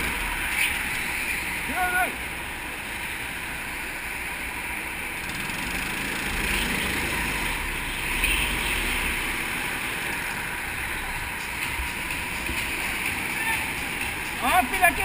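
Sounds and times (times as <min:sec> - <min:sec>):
go-kart engines droning: 0:00.0 - 0:15.0.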